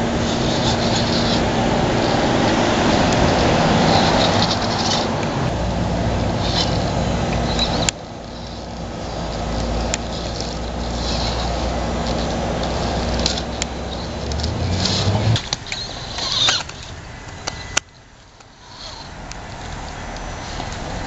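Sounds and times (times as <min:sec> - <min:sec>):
toy car electric motor whirring: 0:00.0 - 0:21.0.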